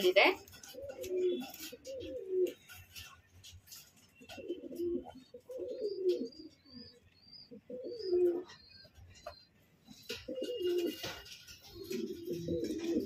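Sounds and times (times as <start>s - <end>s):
pigeons cooing: 0.3s - 13.0s
bird chirping: 0.7s - 13.0s.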